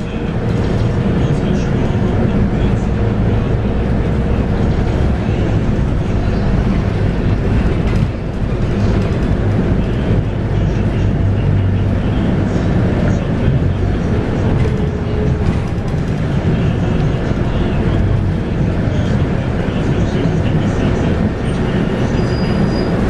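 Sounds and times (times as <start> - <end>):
bus engine rumbling: 0.0 - 23.0
road noise: 0.0 - 23.0.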